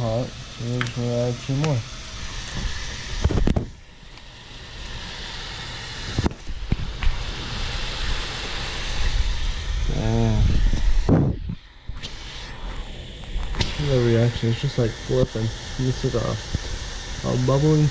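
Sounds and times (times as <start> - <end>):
water boiling and sizzling in saucepan: 0.0 - 17.9.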